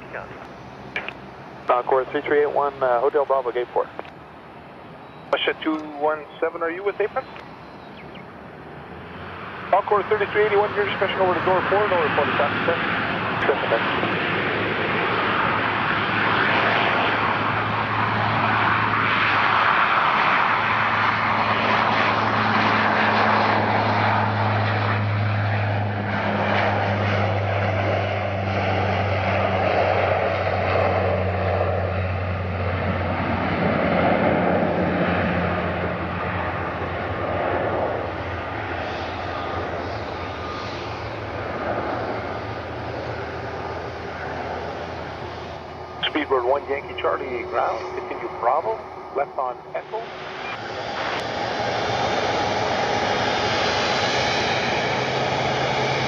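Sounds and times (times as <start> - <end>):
airliner engines running: 0.0 - 56.0.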